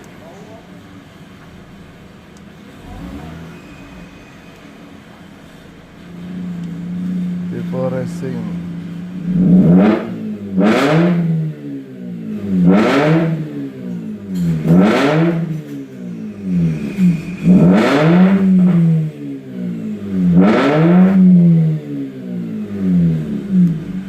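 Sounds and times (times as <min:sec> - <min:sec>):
rotary engine revving and idling: 0:01.2 - 0:24.0.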